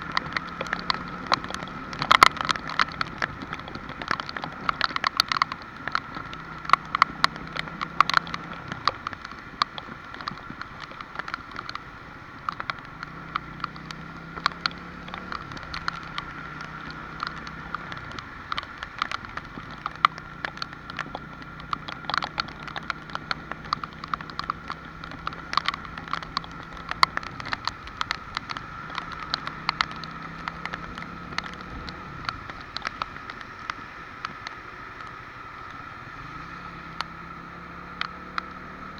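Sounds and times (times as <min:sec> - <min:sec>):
low engine hum: 0:00.0 - 0:38.9
rain falling: 0:00.0 - 0:38.9.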